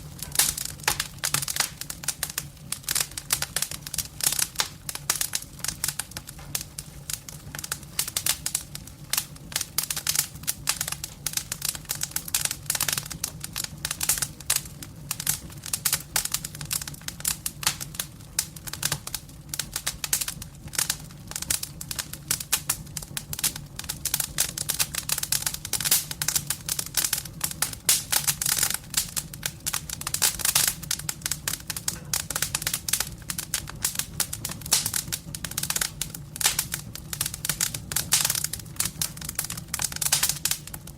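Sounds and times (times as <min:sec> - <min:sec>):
campfire crackling: 0:00.0 - 0:40.9
low fire rumble: 0:00.0 - 0:40.9.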